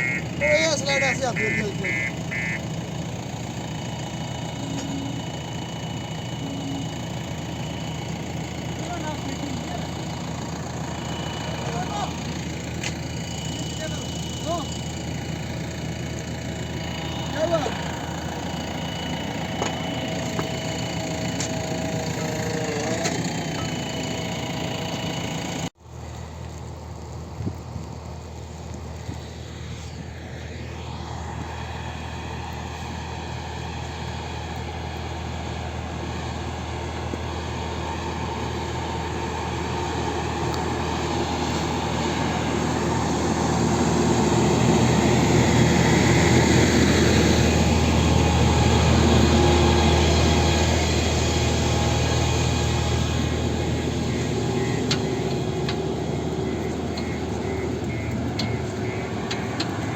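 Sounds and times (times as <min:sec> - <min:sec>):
heavy vehicle engine running: 0:00.0 - 0:59.9.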